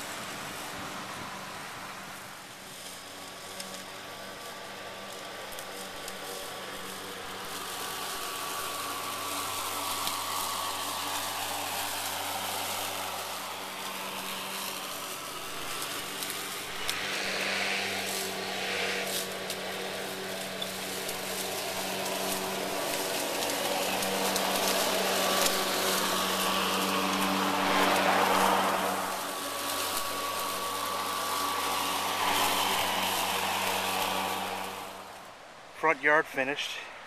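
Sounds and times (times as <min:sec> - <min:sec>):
electric lawn mower humming: 0:00.0 - 0:35.9
blade cutting grass: 0:00.0 - 0:36.4.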